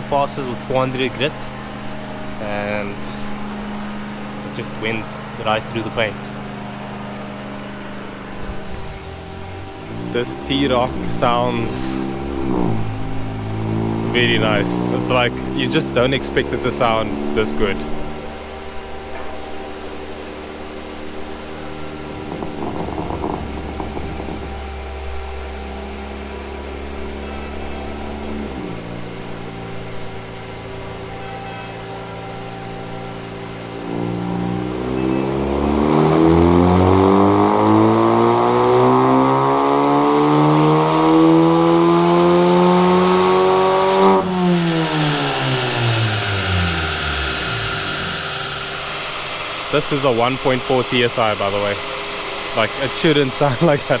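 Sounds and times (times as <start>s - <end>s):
car engine revving on dyno: 0.0s - 54.0s.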